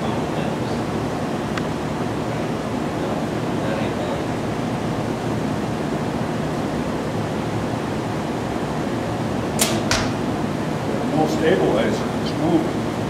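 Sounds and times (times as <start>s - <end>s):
room noise hiss: 0.0s - 13.0s.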